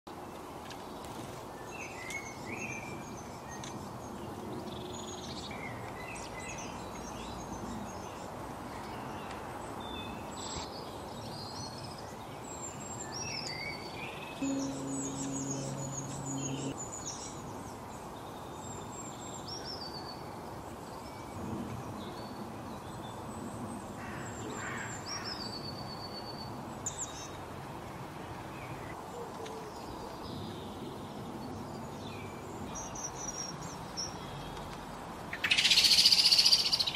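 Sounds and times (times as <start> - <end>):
outdoor background noise: 0.1 - 36.9
songbirds chirping: 0.1 - 36.9.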